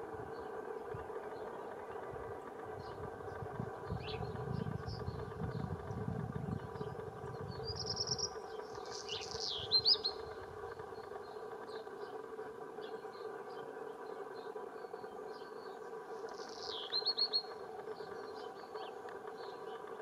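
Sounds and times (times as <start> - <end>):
songbird singing: 0.0 - 20.0
steady low hum: 0.0 - 20.0
faint bird chirps: 0.1 - 20.0.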